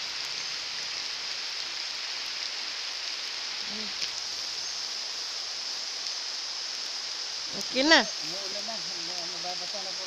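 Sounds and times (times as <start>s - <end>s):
rain falling on foliage: 0.0s - 10.0s.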